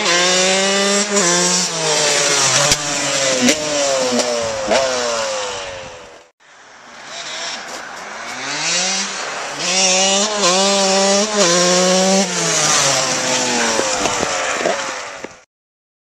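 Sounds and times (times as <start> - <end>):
two-stroke dirt bike revving past: 0.0 - 6.2, 7.0 - 15.4.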